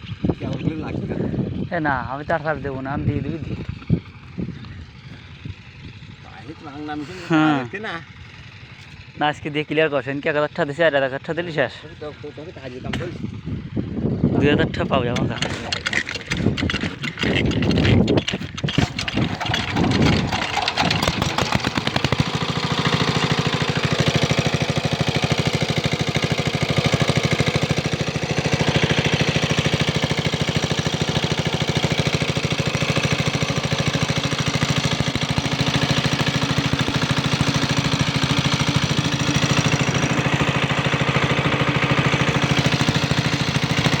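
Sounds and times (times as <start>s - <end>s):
diesel water pump engine: 0.0s - 44.0s.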